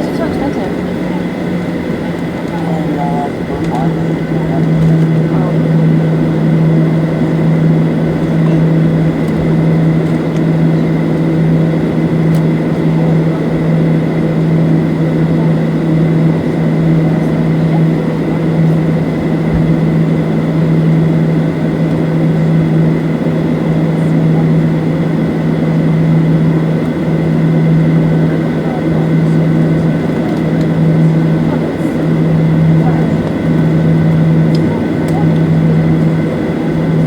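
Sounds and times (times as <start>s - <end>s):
aircraft cabin drone: 0.0s - 37.0s.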